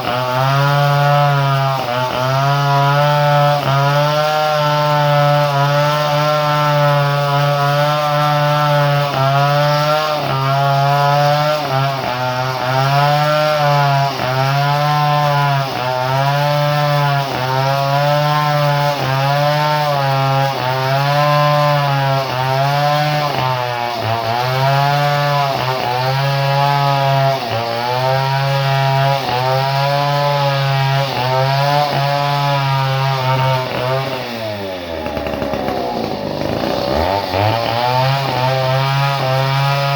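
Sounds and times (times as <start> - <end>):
chainsaw engine running fast: 0.0 - 39.9.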